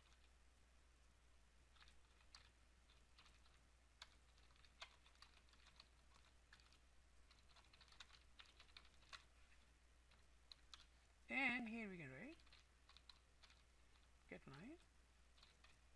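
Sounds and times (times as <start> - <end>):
keyboard typing: 0.0 - 0.3, 1.7 - 11.0, 12.1 - 15.9
faint low hum: 0.0 - 15.9.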